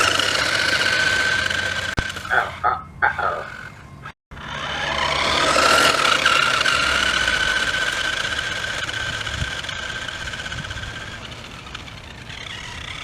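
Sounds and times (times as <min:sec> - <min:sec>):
toy car motor whining: 0:00.0 - 0:13.0.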